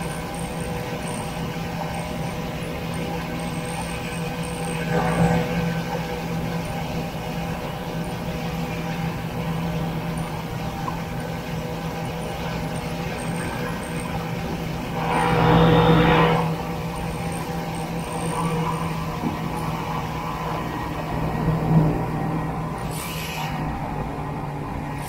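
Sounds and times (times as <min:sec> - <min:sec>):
snowmobile engine running: 0:00.0 - 0:22.9
rush of noise: 0:00.0 - 0:25.0.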